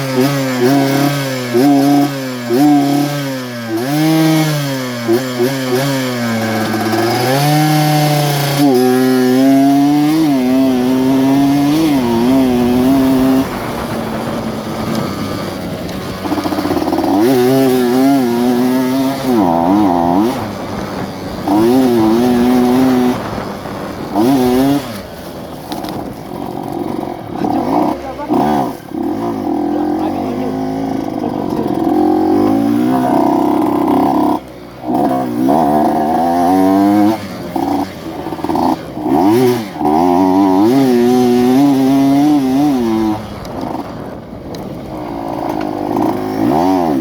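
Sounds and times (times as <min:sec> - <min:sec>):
two-stroke motorcycle engine revving: 0:00.0 - 0:47.0.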